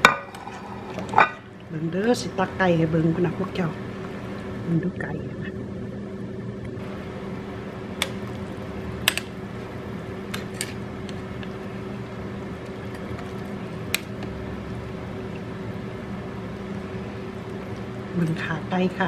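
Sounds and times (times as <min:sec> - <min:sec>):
low hum: 0:00.2 - 0:19.0.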